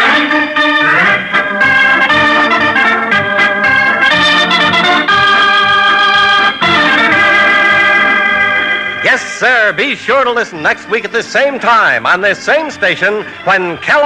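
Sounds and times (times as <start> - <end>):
organ playing sustained chords: 0.0 - 14.0.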